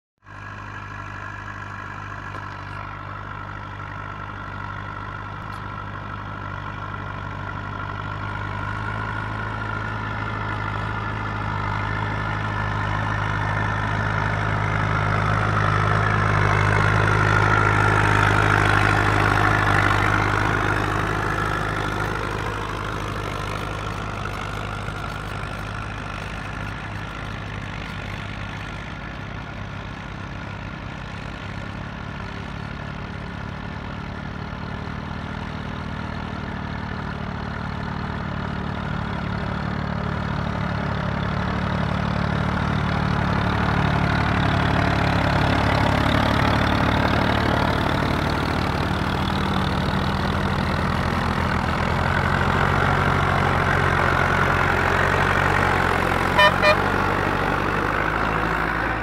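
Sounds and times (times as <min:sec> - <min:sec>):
tractor diesel engines running: 0:00.2 - 0:59.0.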